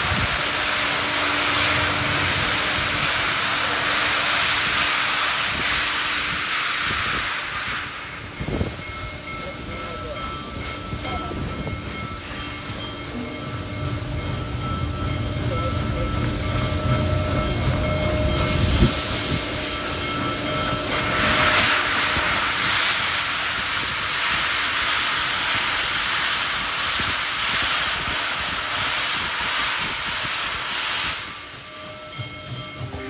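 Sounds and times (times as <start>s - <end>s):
steam locomotive rumbling: 0.0s - 33.0s
steam venting hiss: 0.0s - 33.0s.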